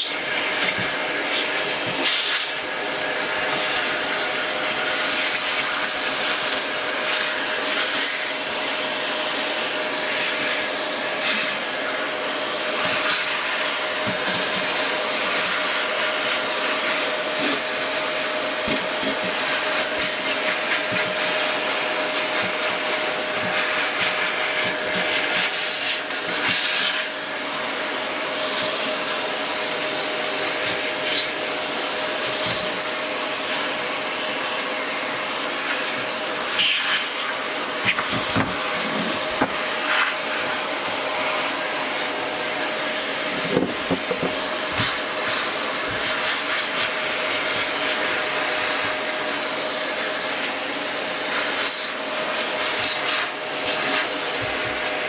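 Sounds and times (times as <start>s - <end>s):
electric cleaning tool whine: 0.0s - 55.0s.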